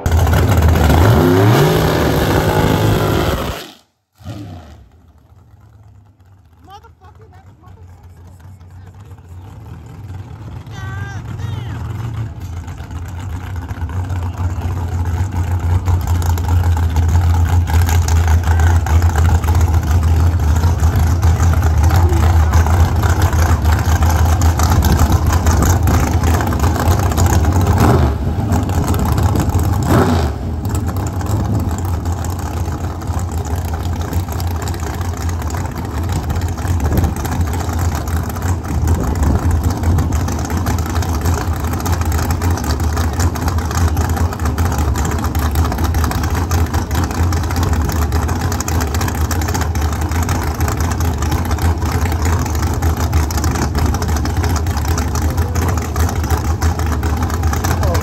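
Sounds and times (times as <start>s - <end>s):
car engine drone: 0.0s - 58.0s
road noise: 0.0s - 58.0s.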